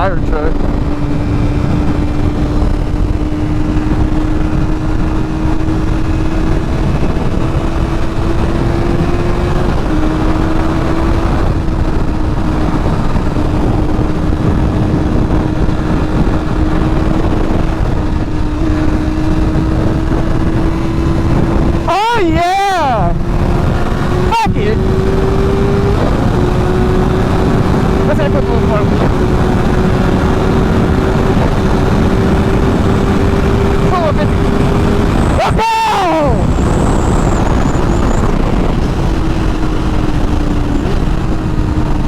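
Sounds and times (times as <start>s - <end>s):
motorcycle engine cruising: 0.0s - 42.0s
wind rush on microphone: 0.0s - 42.0s.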